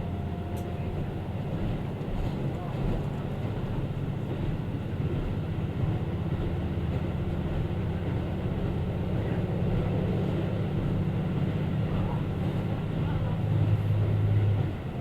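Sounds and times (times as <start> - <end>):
train engine and wheel rumble: 0.0 - 15.0.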